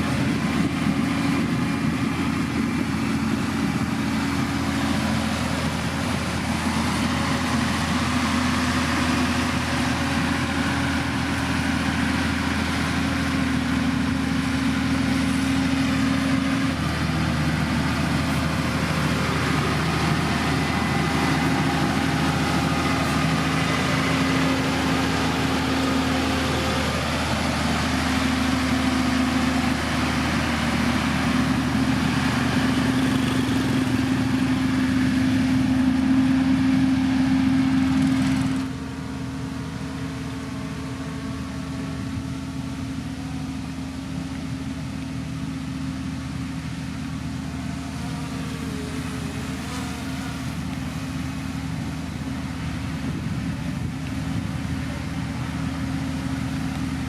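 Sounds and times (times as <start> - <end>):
heavy machinery diesel engine droning: 0.0 - 57.0.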